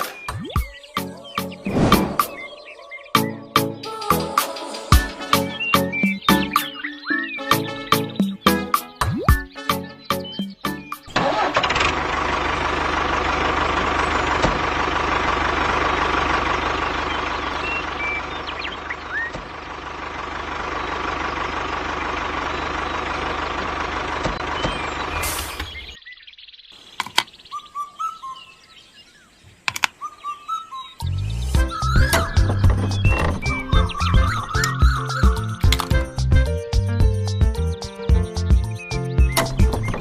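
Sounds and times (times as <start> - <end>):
birds chirping: 0.0 - 11.2, 13.6 - 40.0.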